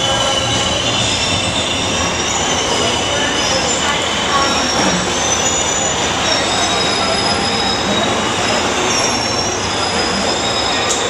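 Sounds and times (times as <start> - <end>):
train rumble: 0.0 - 11.0
train wheels squealing on rails: 0.0 - 11.0.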